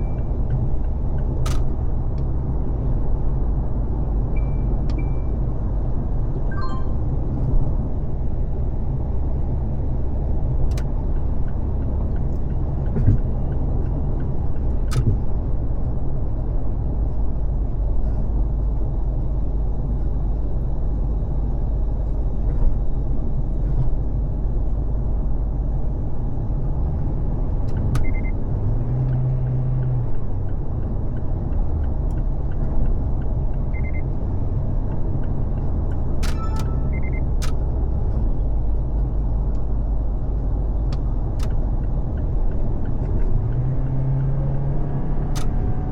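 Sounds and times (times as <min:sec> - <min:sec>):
car road and tyre noise: 0:00.0 - 0:45.9.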